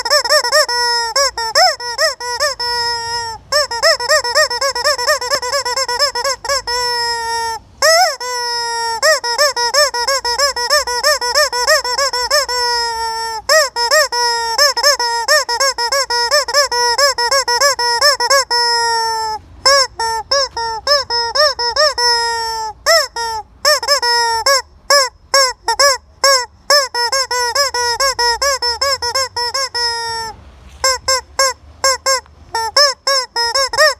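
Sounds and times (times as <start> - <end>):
chicken squeaky honking calls: 0.0 - 33.9.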